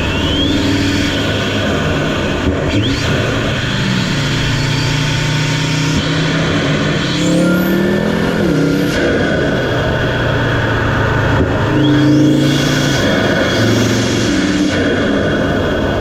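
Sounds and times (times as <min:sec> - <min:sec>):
car engine accelerating: 0:00.0 - 0:16.0
turbo whine: 0:00.0 - 0:16.0.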